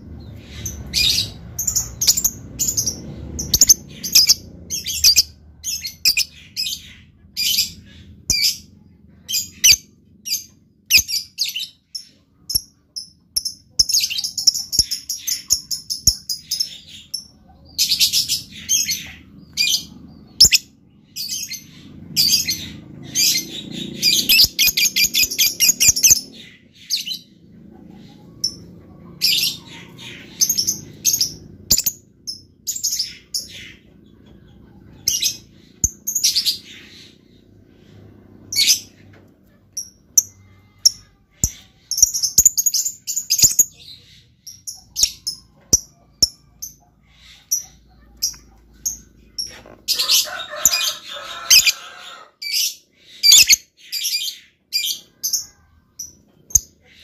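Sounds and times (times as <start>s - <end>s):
lovebird chirping and trilling: 0.1s - 27.3s, 28.1s - 37.3s, 39.7s - 51.8s, 52.4s - 57.0s.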